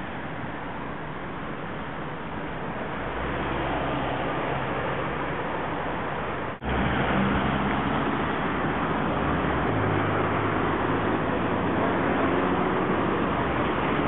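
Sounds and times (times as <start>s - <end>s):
low engine hum: 0.0s - 14.0s
outdoor traffic rumble: 0.0s - 14.0s.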